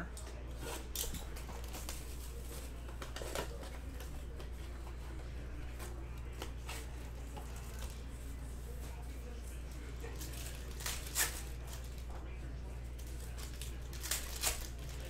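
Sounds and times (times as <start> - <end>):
rustling and crinkling packaging: 0.4 - 15.0.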